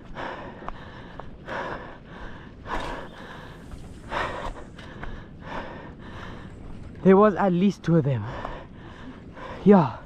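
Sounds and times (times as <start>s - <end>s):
man breathing heavily: 0.0s - 6.8s, 8.2s - 10.0s.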